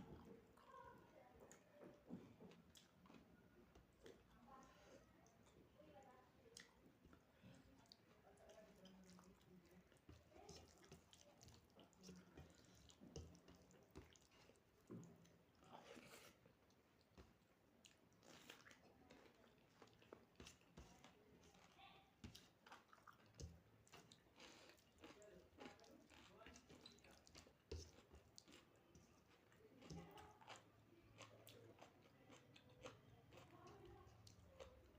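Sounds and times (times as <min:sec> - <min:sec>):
person chewing food: 0:02.3 - 0:05.7, 0:06.5 - 0:34.9.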